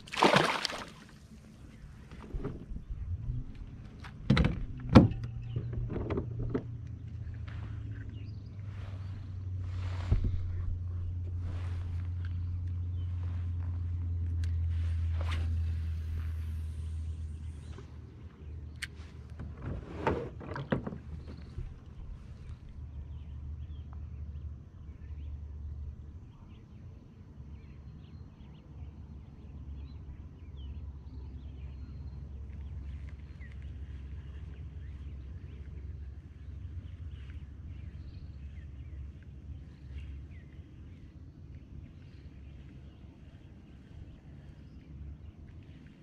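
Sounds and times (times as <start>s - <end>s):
steady low rumble: 1.0s - 46.0s.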